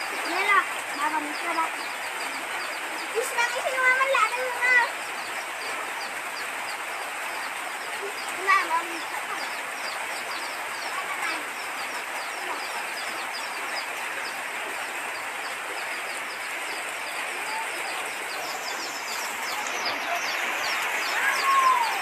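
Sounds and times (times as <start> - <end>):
birds chirping: 0.0 - 22.0
floodwater rushing: 0.0 - 22.0.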